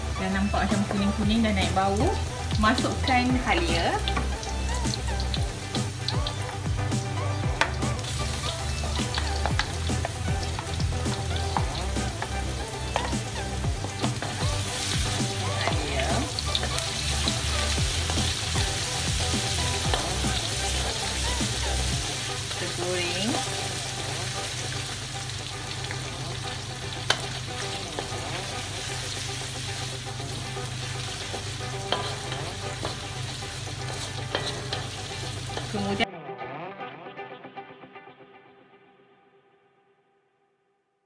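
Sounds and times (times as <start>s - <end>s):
garlic sizzling in hot oil: 0.0s - 36.0s
music: 0.0s - 41.0s.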